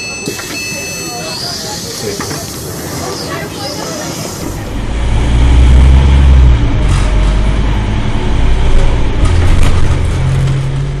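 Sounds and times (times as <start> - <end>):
bus diesel engine drone: 0.0 - 11.0.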